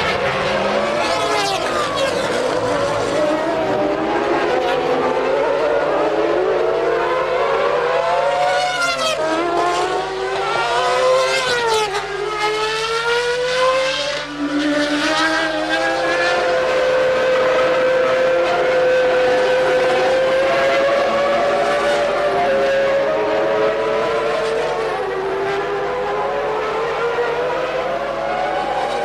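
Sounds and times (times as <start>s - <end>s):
race car engines at high revs: 0.0s - 29.0s.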